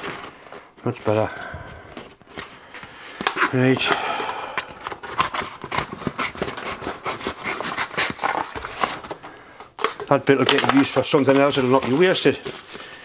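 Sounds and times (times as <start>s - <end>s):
stiff paper rustling and crackling: 1.9s - 13.0s.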